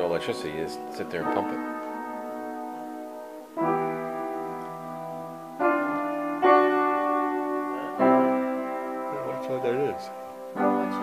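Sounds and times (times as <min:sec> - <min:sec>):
piano chords ringing: 0:00.0 - 0:11.0.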